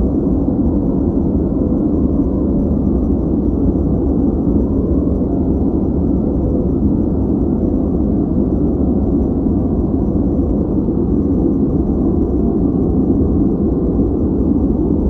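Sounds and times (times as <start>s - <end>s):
deep steady synthetic noise: 0.0s - 15.0s.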